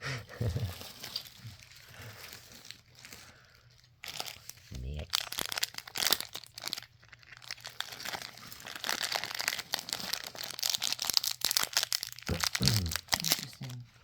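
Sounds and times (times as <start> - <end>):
wrapper crinkling and tearing: 0.4 - 14.0.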